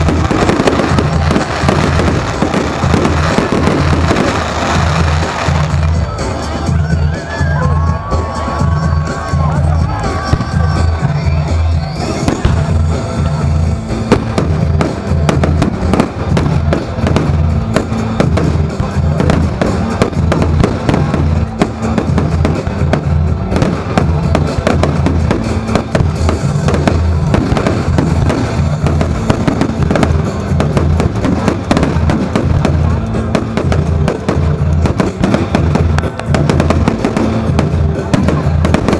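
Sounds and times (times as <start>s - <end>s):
fireworks banging and crackling: 0.0s - 38.9s
loud music with heavy bass beat: 0.0s - 38.9s.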